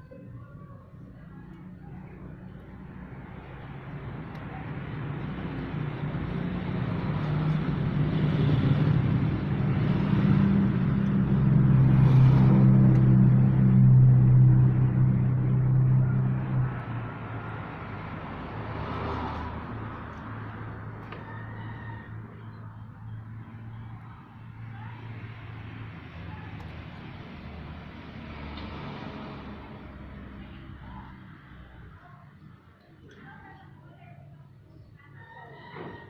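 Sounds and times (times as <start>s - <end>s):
vehicle engine passing: 1.0s - 32.7s.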